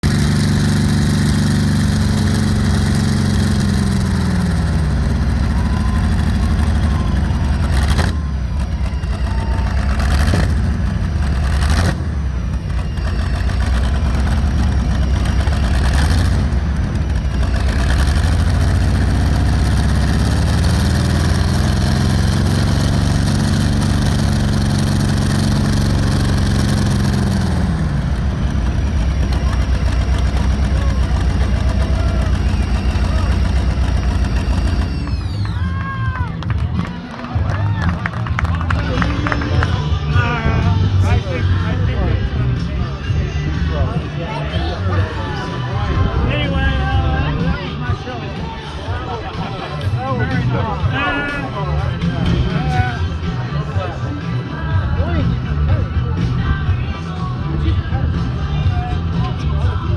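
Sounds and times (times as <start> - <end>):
aircraft engine running deep: 0.0 - 49.8.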